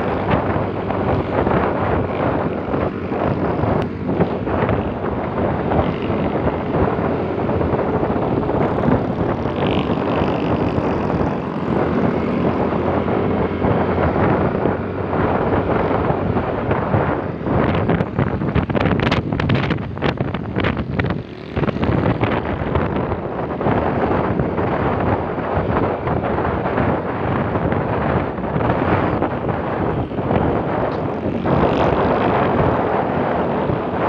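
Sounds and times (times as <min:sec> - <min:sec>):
motorcycle engine running: 0:00.0 - 0:34.0
road noise: 0:00.0 - 0:34.0
rushing wind: 0:00.0 - 0:34.0.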